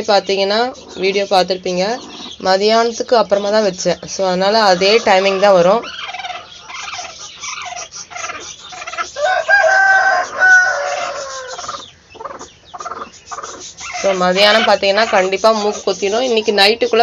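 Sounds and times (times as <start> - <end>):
hen calling: 0.0 - 17.0.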